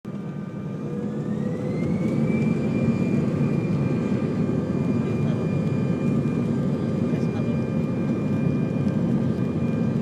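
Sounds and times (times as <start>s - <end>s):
jet engines spooling up: 0.1s - 10.0s.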